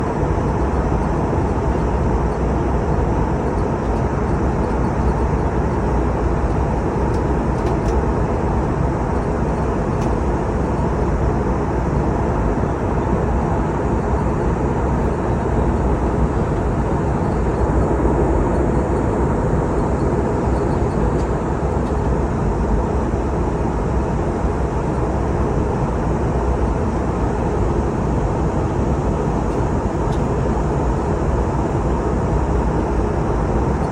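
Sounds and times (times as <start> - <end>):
airliner cabin roar: 0.0 - 33.9.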